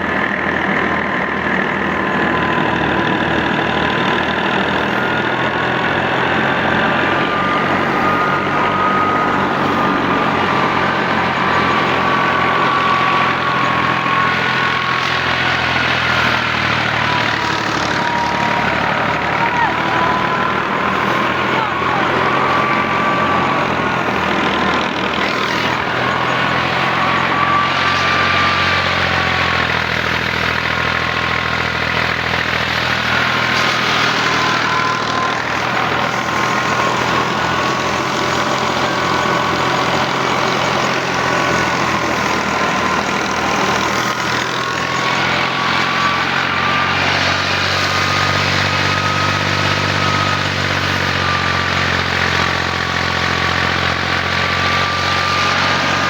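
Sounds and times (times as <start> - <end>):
high machine whine: 0.0 - 56.0
tractor engine running: 0.0 - 56.0.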